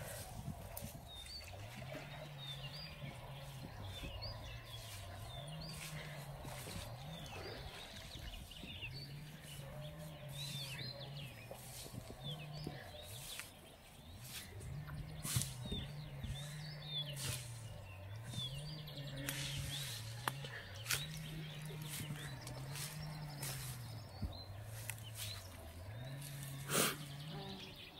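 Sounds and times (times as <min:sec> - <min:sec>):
low two-pitch hum: 0:00.0 - 0:27.9
small birds chirping: 0:00.0 - 0:27.9.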